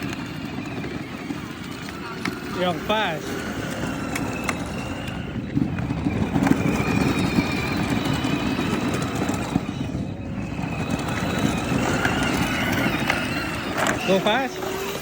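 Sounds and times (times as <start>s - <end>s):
faint electric motor whine: 0.0s - 15.0s
tyres rolling over ground: 0.0s - 15.0s.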